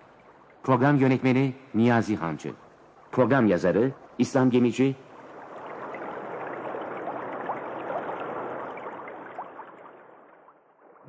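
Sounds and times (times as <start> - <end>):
rushing water-like noise: 0.0 - 11.0.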